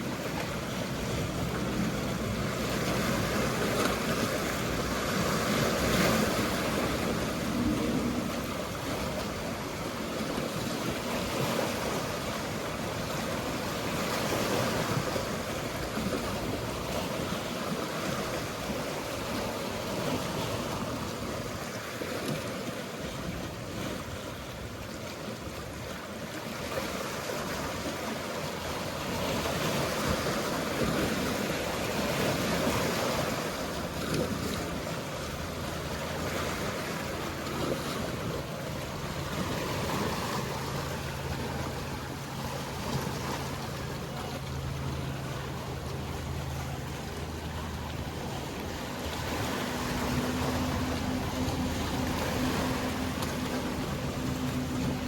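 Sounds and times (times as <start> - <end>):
distant boat engine hum: 0.0 - 55.0
sea waves washing: 0.0 - 55.0.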